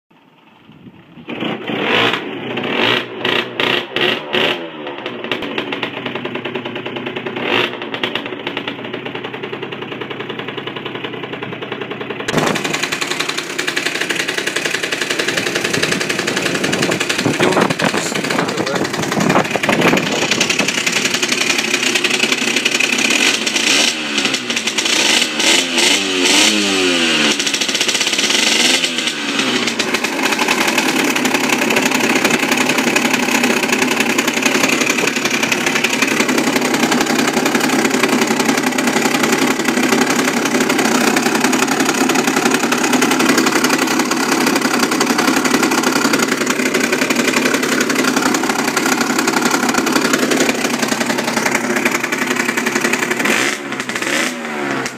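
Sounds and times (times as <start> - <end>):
two-stroke engine revving: 1.0 - 54.9.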